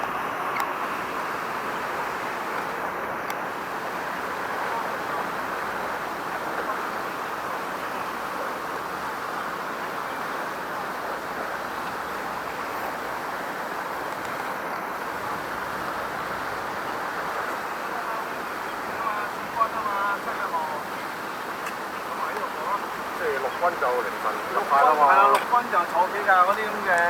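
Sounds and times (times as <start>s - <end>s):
outdoor background rush: 0.0s - 27.0s.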